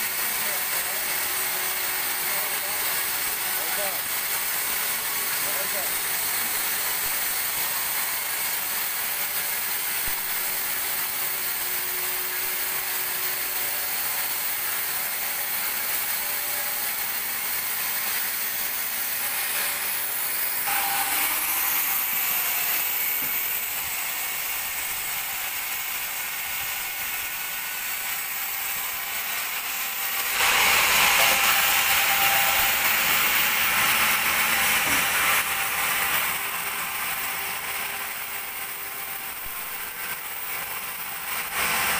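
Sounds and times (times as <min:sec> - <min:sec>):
band sawmill sawing log: 0:00.0 - 0:41.9.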